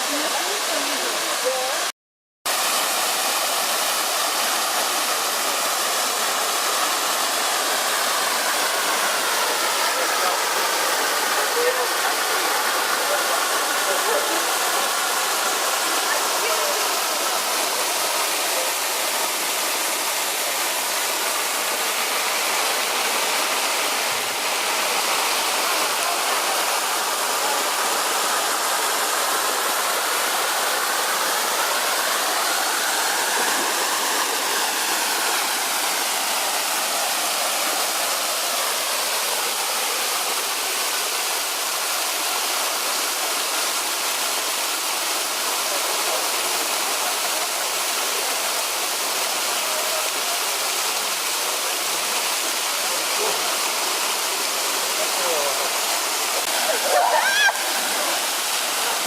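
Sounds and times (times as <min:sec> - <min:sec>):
waterfall rushing: 0:00.0 - 0:01.9, 0:02.5 - 0:59.0.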